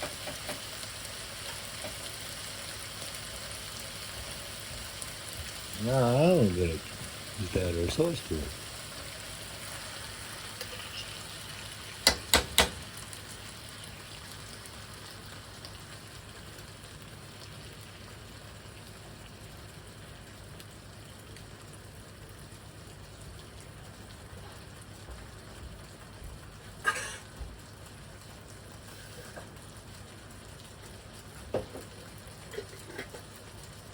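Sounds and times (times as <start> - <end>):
stir fry sizzling in pan: 0.0 - 33.9.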